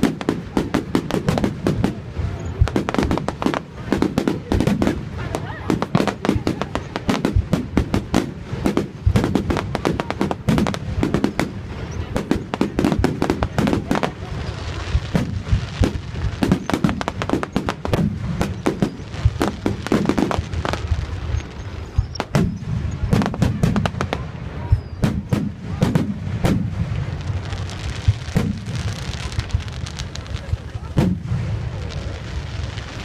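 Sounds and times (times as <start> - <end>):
fireworks cracking and banging: 0.0 - 33.0.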